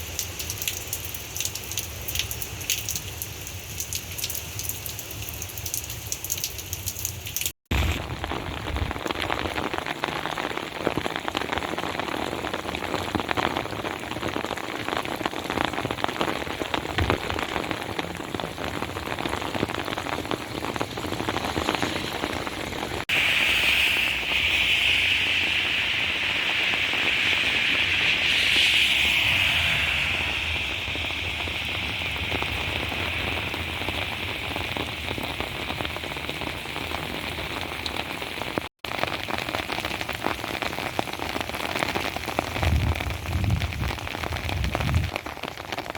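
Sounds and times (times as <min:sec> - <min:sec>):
heavy rain pattering: 0:00.0 - 0:45.9.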